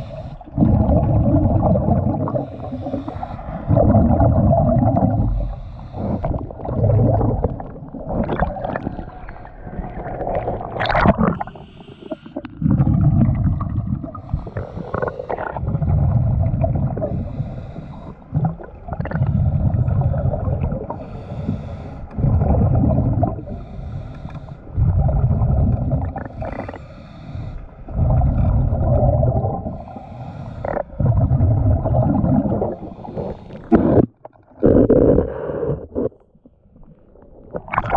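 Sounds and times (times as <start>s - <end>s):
faint steady hum: 0.0s - 36.9s
muffled water sloshing underwater: 0.0s - 37.9s.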